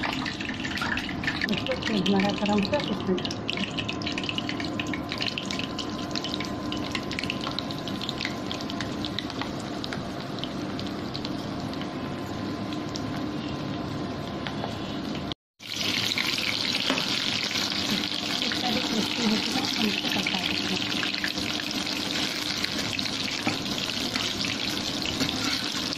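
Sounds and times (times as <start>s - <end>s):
food sizzling in hot oil: 0.0s - 14.0s, 15.1s - 25.9s.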